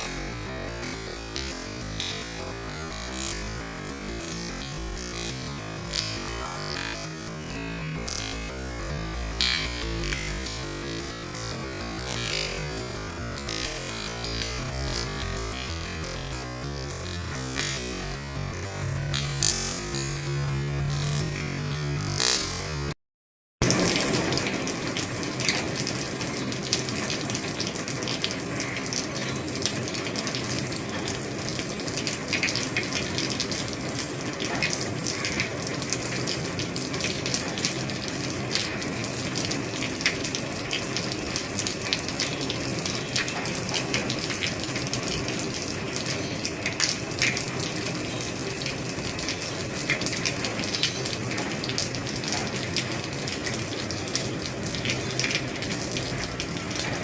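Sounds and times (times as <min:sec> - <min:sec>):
heavy rain on a roof: 0:00.0 - 0:22.4, 0:23.6 - 0:57.0.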